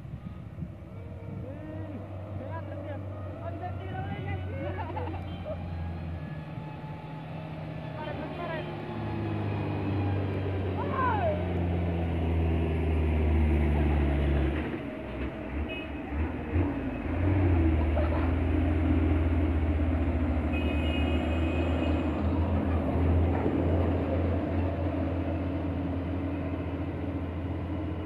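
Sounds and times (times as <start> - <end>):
diesel truck engines droning: 0.0 - 28.0.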